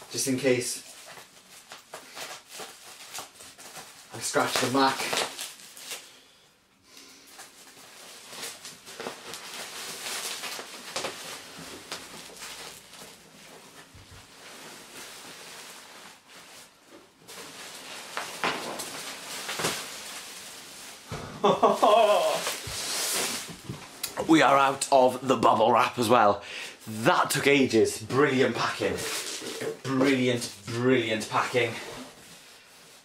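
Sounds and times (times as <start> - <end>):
bubble wrap crinkling: 0.0 - 6.3, 7.2 - 26.0, 26.8 - 33.0.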